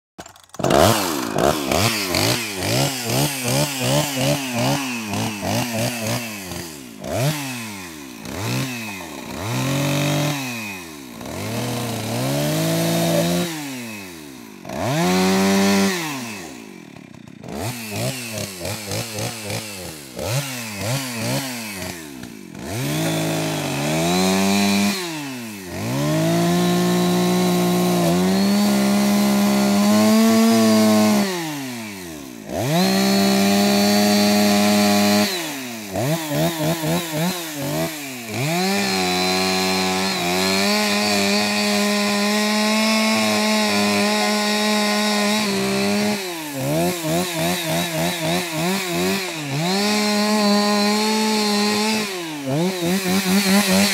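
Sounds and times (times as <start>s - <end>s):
chainsaw engine revving: 0.2s - 53.9s.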